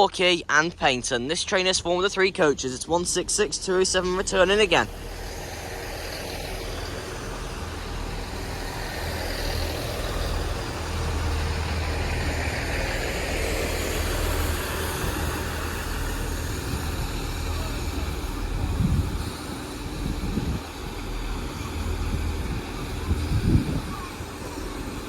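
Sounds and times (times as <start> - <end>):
diesel engine drone: 0.0 - 25.0
train rushing: 0.0 - 25.0.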